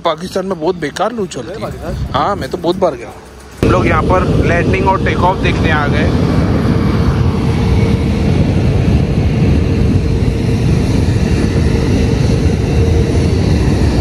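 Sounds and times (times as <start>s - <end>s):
jet engine rumble: 0.0s - 14.0s
wind buffeting microphone: 0.0s - 14.0s.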